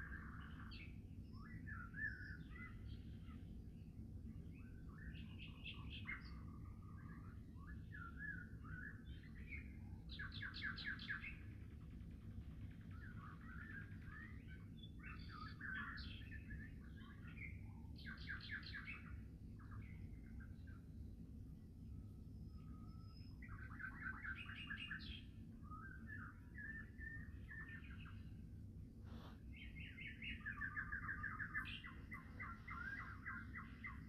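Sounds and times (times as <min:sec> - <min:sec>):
songbirds singing: 0:00.0 - 0:34.0.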